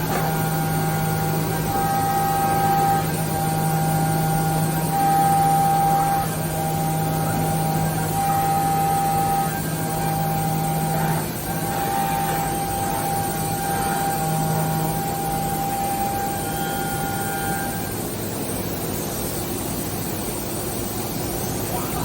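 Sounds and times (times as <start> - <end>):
machine noise: 0.0 - 22.0
steady machine whine: 0.0 - 22.0.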